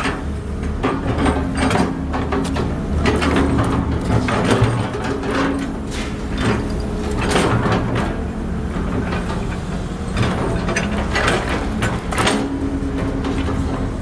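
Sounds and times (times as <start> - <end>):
excavator engine humming: 0.0 - 14.0.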